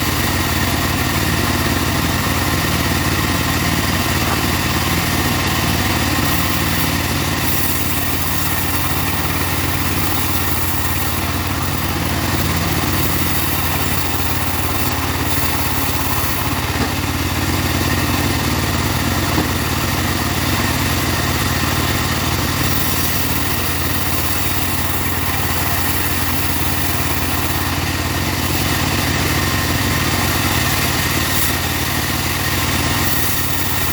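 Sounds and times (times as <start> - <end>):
bandsaw sawmill droning: 0.0 - 33.9.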